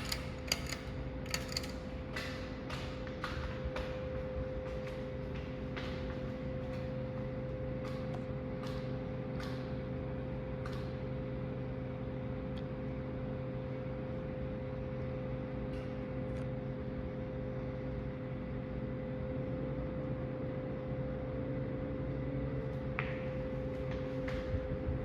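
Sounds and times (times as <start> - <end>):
ceiling fan humming: 0.0 - 25.0.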